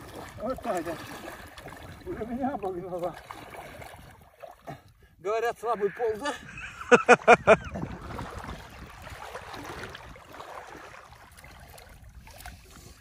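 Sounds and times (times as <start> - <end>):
water sloshing around wading legs: 0.0 - 5.1, 6.6 - 13.0.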